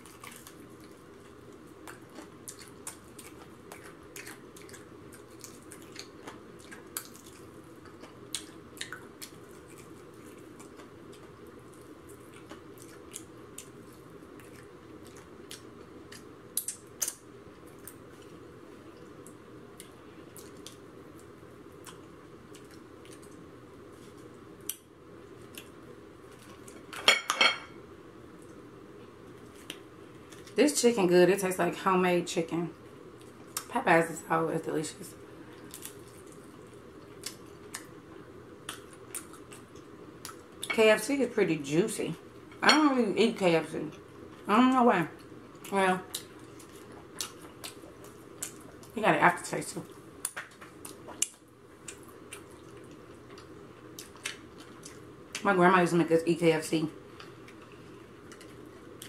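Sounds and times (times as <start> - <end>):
chewing crispy fried chicken: 0.0 - 27.1, 28.3 - 30.6, 32.7 - 33.8, 35.1 - 40.8, 43.9 - 49.0, 49.8 - 55.5, 57.0 - 59.0
electric fan humming: 0.0 - 59.0.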